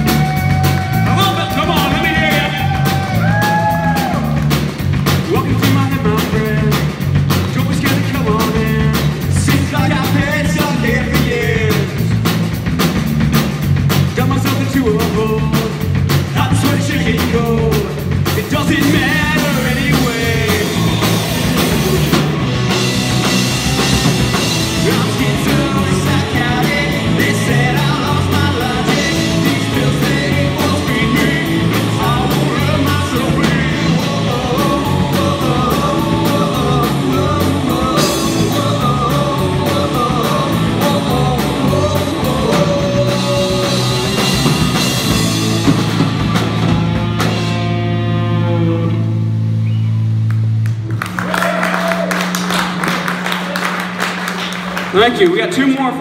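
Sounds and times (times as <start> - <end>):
drum kit: 0.0 - 56.0
rock band playing: 0.0 - 56.0.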